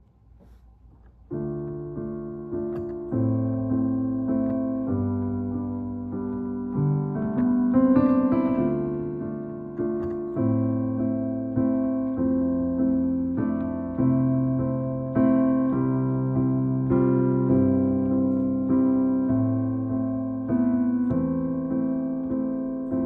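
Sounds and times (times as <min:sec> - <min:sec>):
piano playing slow chords: 0:01.2 - 0:23.0.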